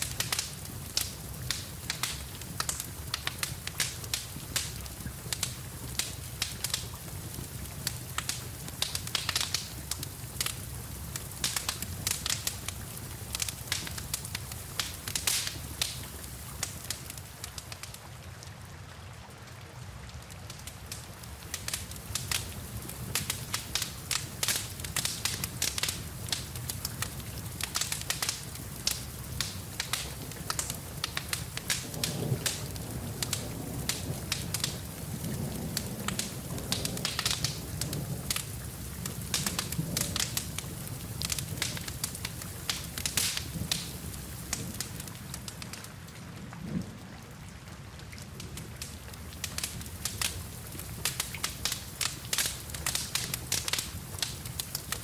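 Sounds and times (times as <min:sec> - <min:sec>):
wood fire crackling and popping: 0:00.0 - 0:18.1, 0:19.5 - 0:46.8, 0:48.2 - 0:55.0
steady rain: 0:00.0 - 0:55.0.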